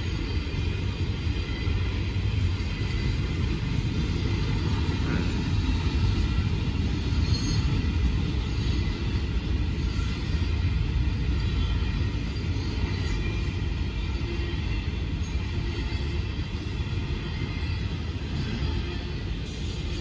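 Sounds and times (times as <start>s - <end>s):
muffled freight train rumble: 0.0s - 20.0s.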